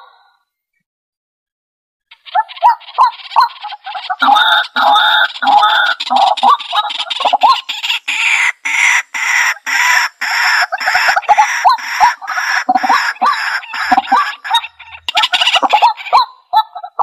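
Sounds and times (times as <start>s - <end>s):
bird giving harsh repeated call: 2.1s - 16.2s.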